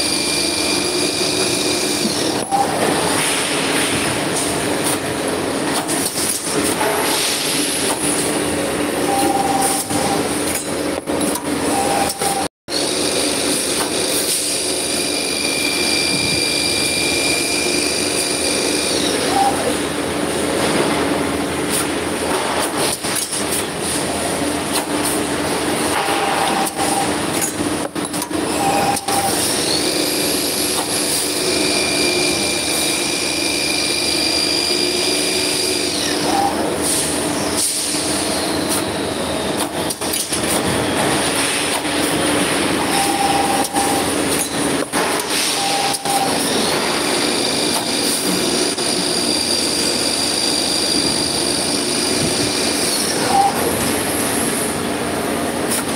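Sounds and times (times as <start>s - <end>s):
machine mechanical noise: 0.0s - 55.9s.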